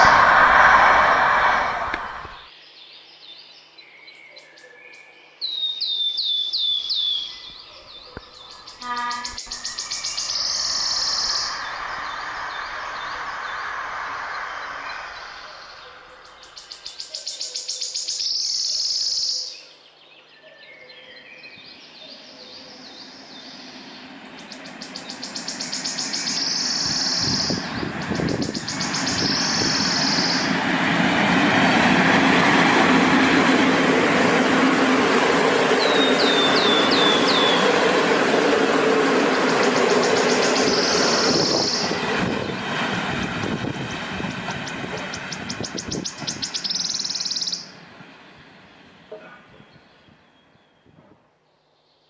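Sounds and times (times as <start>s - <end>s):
passenger train passing: 0.0s - 2.5s, 7.0s - 19.9s, 21.4s - 50.8s.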